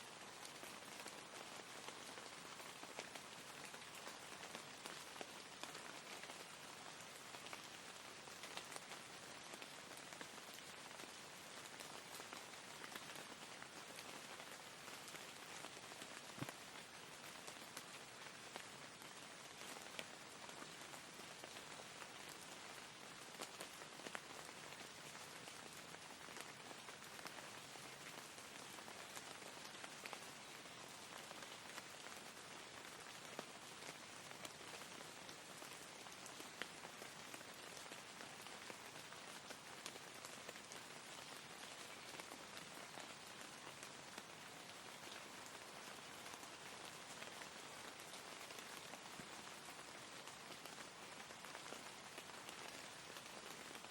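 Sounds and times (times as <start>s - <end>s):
soft rain pattering: 0.0s - 53.9s.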